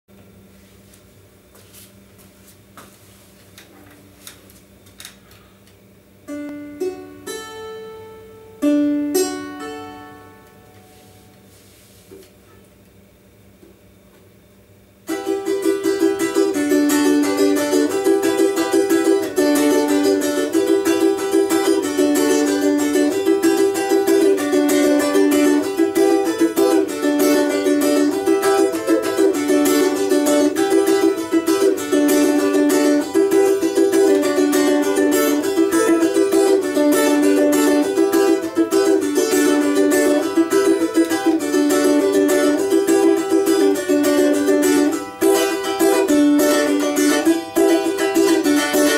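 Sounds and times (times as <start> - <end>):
balalaika strumming: 6.2 - 11.6, 15.1 - 48.9.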